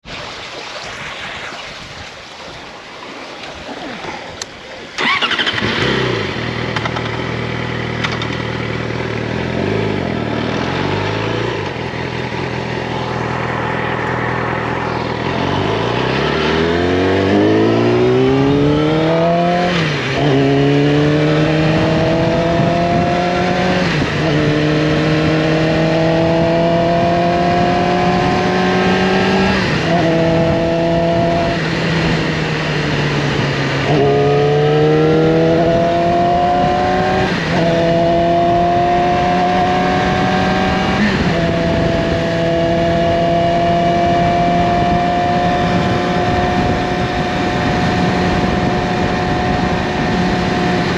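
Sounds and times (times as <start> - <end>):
motorcycle accelerating through gears: 5.0 - 50.9
motorcycle engine revving: 5.0 - 50.9.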